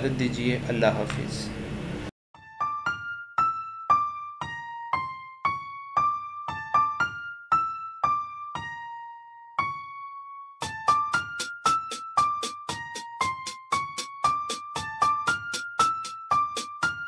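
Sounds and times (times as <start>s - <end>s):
keyboard melody: 2.4s - 17.0s.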